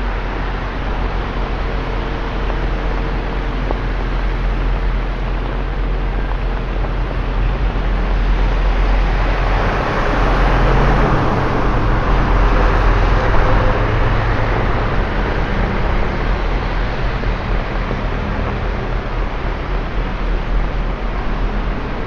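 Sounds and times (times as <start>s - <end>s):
rain: 0.0s - 22.0s
traffic noise: 0.0s - 22.0s
vehicle passing on wet road: 0.0s - 22.0s.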